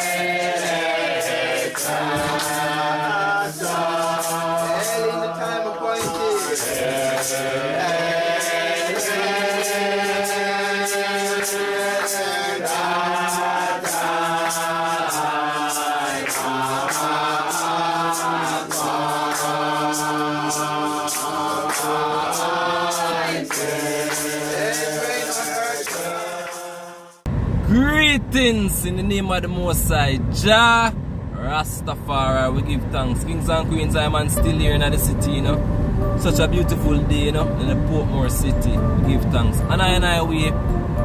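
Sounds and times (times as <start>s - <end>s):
chanted song over drone and beat: 0.0s - 27.6s, 29.2s - 41.0s.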